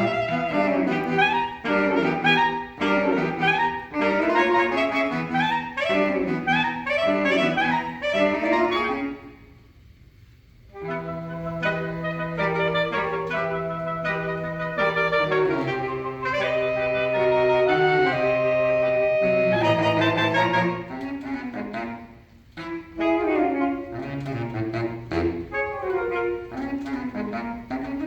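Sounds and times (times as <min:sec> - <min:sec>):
saxophone quartet playing: 0:00.0 - 0:09.8, 0:10.6 - 0:28.0.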